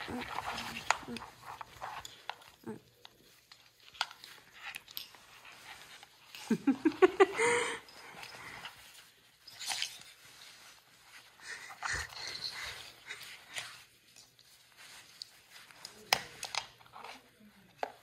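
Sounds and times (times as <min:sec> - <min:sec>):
jacket and straps rustling: 0:00.0 - 0:18.0.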